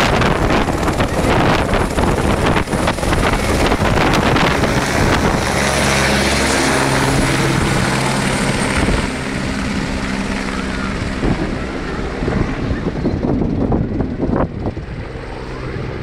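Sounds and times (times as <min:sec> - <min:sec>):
helicopter rotor and engine: 0:00.0 - 0:16.0
wind buffeting microphone: 0:00.0 - 0:16.0.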